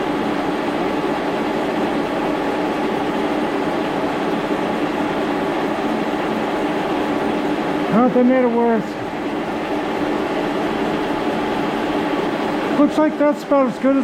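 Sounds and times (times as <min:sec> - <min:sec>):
shop machinery humming: 0:00.0 - 0:14.0.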